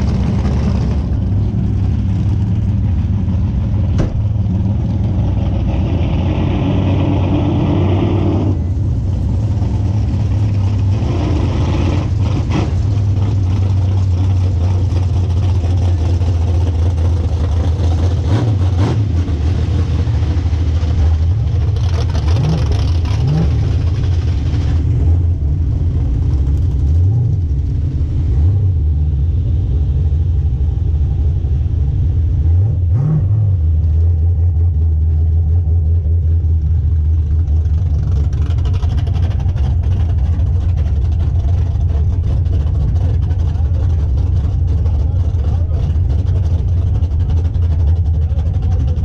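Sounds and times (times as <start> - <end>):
car engine droning with throttle blips: 0.0 - 49.0.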